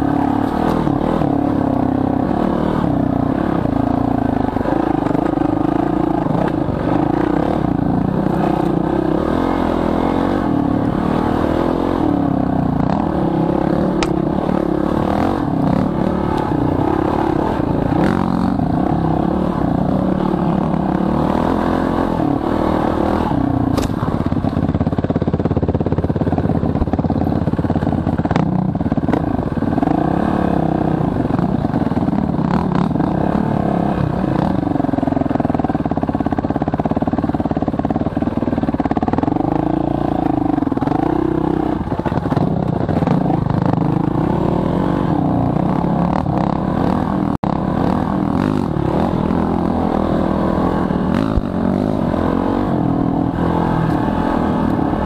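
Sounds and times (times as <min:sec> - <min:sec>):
dirt bike engine revving: 0:00.0 - 0:25.7, 0:27.6 - 0:36.1, 0:38.8 - 0:55.0.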